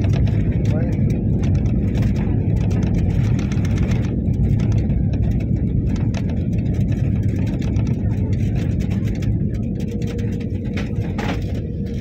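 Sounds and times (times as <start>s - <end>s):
low rumble of engines and tyres: 0.0s - 12.0s.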